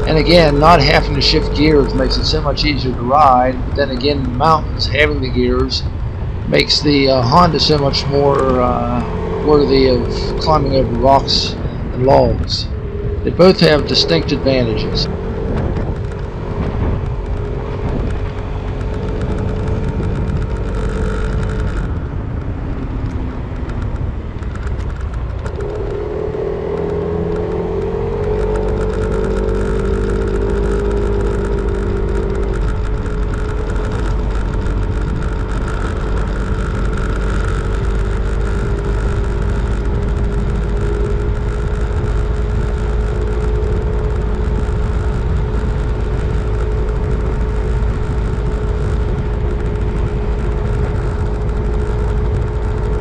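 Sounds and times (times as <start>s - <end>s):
scooter engine running: 0.0s - 53.0s
wind rumble on microphone: 0.0s - 53.0s.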